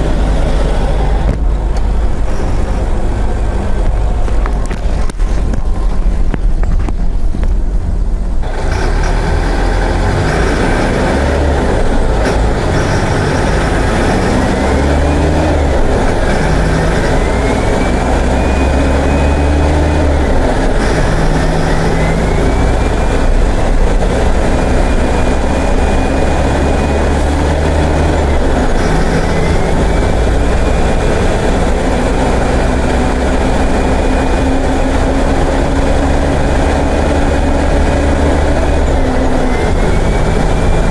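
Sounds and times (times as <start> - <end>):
bus diesel engine pulling hard: 0.0 - 40.9.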